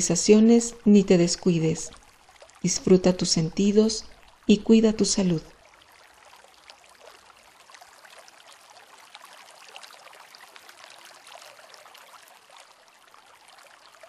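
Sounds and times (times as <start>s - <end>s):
trickling and dripping water: 0.0s - 14.0s.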